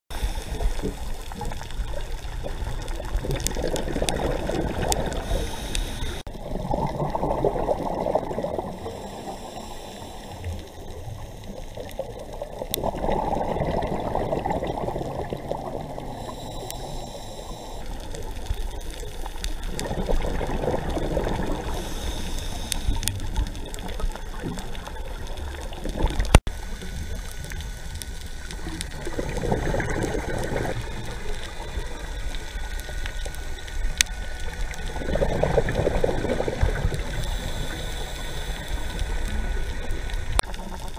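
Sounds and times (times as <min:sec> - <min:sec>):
scuba regulator bubbles: 0:00.1 - 0:40.9.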